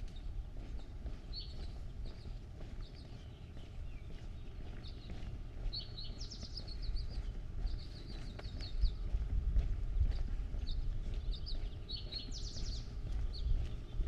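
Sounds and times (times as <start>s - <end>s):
songbird singing: 0.0s - 9.3s, 9.9s - 14.0s.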